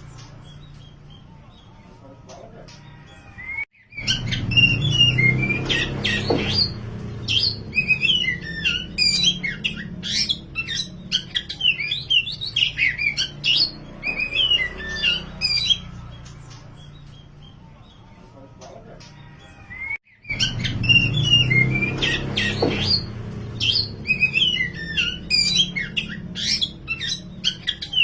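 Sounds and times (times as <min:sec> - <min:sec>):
songbird whistling and chirping: 0:02.9 - 0:17.9, 0:19.4 - 0:28.0.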